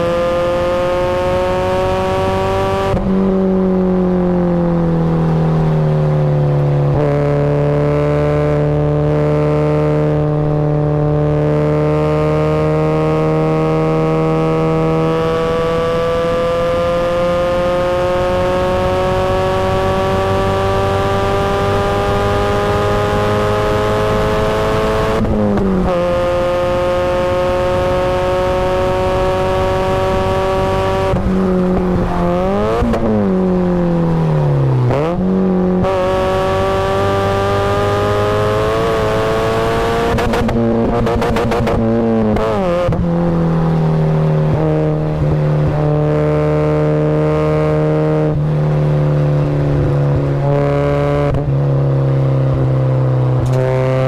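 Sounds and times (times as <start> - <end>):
car engine accelerating hard: 0.0 - 54.0
engine rev blips downshifting: 0.0 - 54.0.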